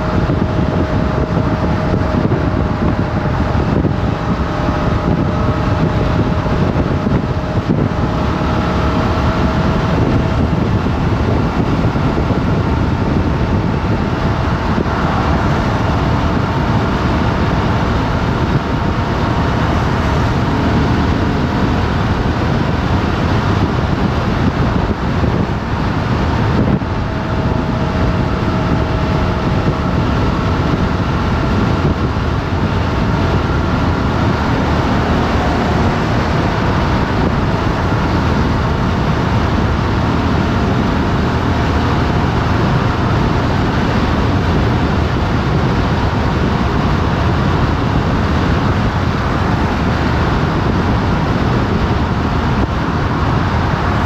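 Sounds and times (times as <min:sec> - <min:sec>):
motorcycle engine drone: 0:00.0 - 0:54.0
wind rush on microphone: 0:00.0 - 0:54.0.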